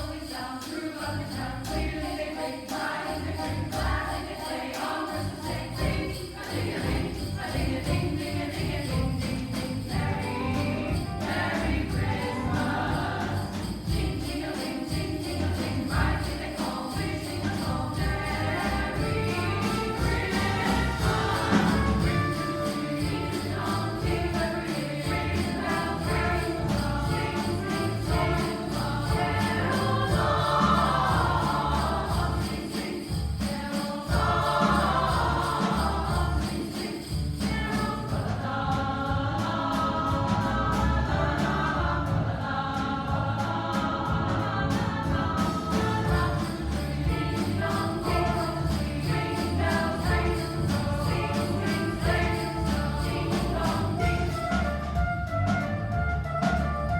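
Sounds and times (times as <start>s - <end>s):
choir singing: 0.0s - 56.9s
jingle bells shaken: 0.0s - 56.9s.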